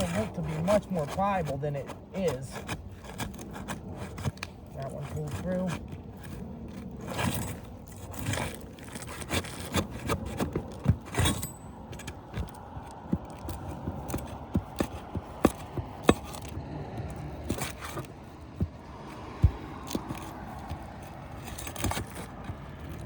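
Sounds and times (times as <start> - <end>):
shingles cracking: 0.0 - 23.0
tools scraping and knocking: 0.0 - 23.0.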